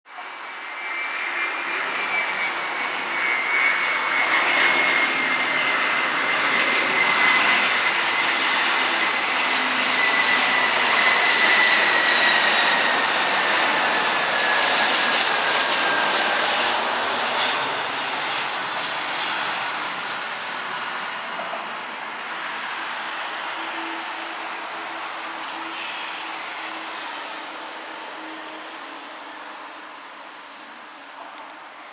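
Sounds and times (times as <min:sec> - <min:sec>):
jet airliner flying by: 0:00.1 - 0:31.9.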